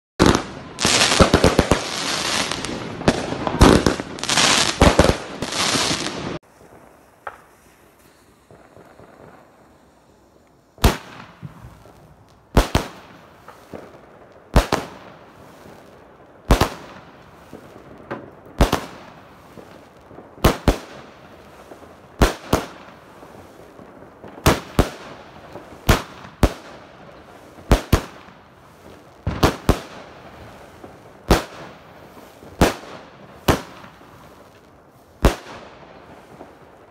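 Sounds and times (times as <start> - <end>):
firework shots firing: 0.2 - 9.9, 10.8 - 15.8, 16.5 - 26.8, 27.6 - 36.6
firework stars crackling: 0.2 - 36.9.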